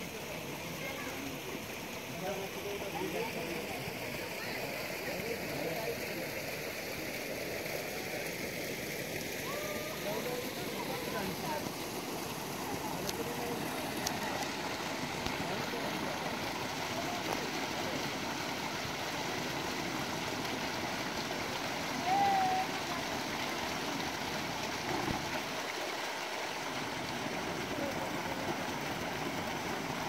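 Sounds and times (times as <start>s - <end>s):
faint voices: 0.0s - 30.0s
water running into stream: 0.0s - 30.0s.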